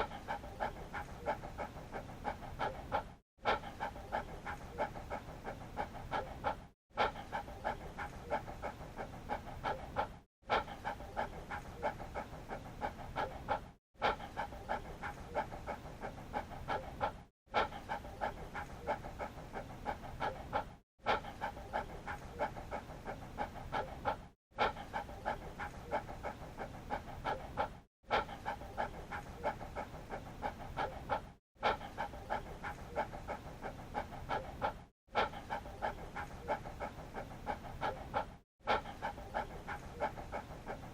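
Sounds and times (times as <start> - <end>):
dog panting: 0.0 - 40.9.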